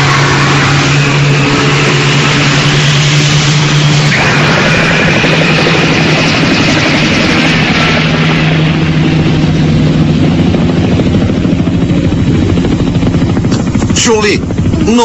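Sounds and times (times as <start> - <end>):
helicopter rotor blades chopping: 0.0 - 15.0.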